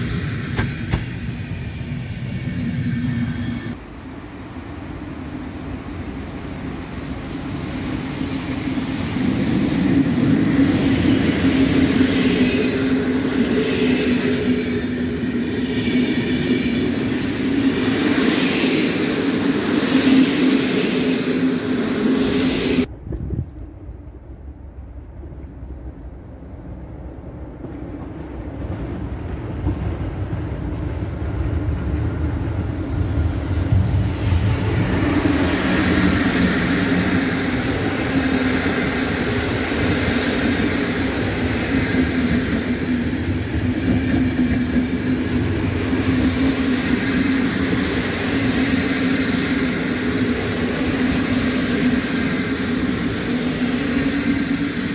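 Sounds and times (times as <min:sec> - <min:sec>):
train rolling on rails: 0:00.0 - 0:54.9.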